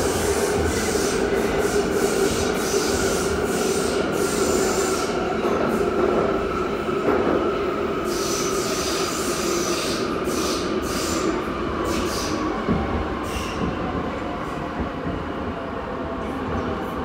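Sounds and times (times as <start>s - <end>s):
metro train rumbling in tunnel: 0.0s - 17.0s.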